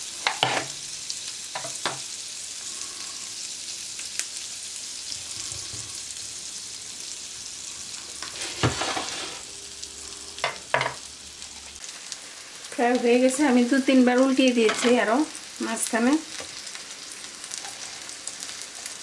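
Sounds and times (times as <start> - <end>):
patties sizzling in pan: 0.0 - 19.0.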